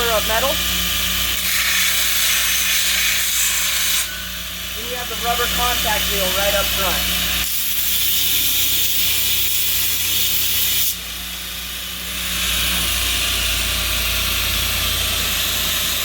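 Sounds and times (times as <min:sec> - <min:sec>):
belt grinder grinding steel: 0:00.0 - 0:16.0
grinder motor hum: 0:00.0 - 0:16.0.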